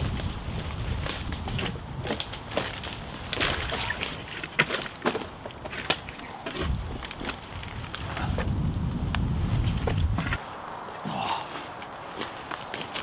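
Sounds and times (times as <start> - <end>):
brush rustling: 0.0 - 13.0
twigs snapping: 0.0 - 13.0.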